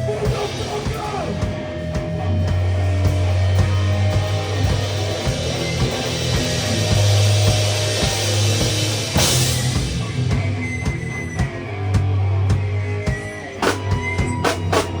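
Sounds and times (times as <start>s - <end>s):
drum kit: 0.0s - 15.0s
guitar: 0.0s - 15.0s.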